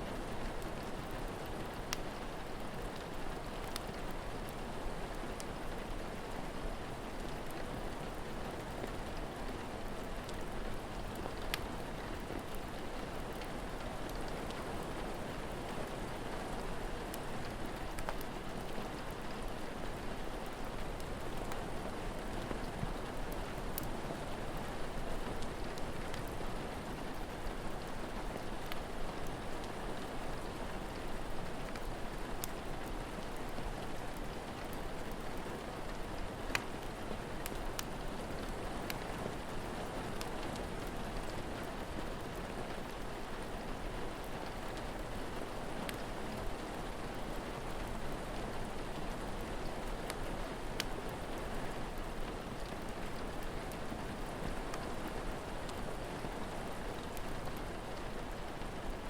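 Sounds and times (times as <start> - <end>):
rain falling: 0.0 - 59.0
wood fire crackling: 0.2 - 5.6, 6.9 - 19.7, 20.5 - 26.4, 27.1 - 48.3, 49.2 - 55.9.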